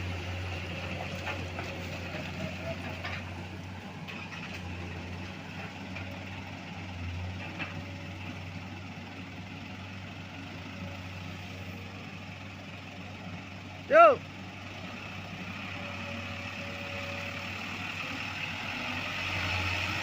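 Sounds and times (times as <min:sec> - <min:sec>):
heavy diesel engine humming: 0:00.0 - 0:20.0.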